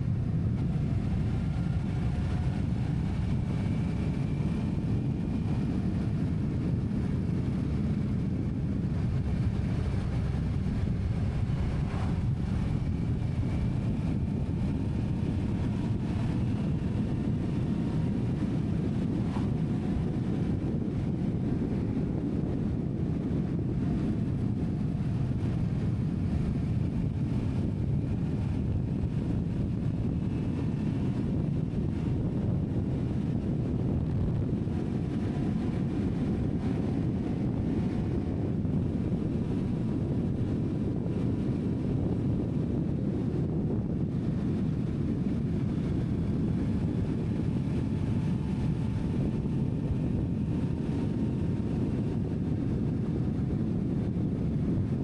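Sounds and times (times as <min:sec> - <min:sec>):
vehicle rumbling: 0:00.0 - 0:55.0
wind buffeting microphone: 0:00.0 - 0:55.0.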